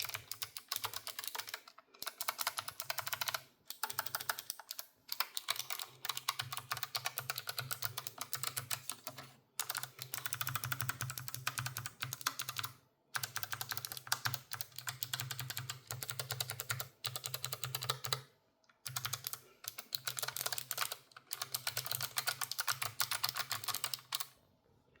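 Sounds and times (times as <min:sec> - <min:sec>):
clicky keyboard typing: 0:00.0 - 0:24.4.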